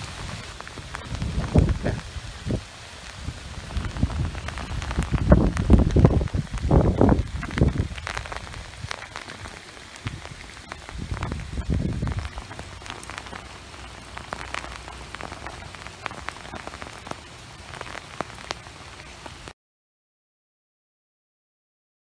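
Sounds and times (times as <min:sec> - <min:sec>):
raindrops hitting close: 0:00.0 - 0:19.6
steady rain falling: 0:00.0 - 0:19.6.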